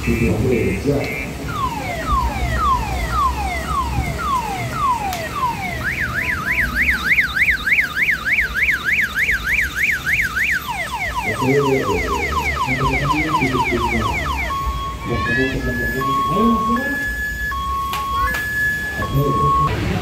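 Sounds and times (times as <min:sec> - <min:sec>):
car alarm siren: 0:00.0 - 0:20.0.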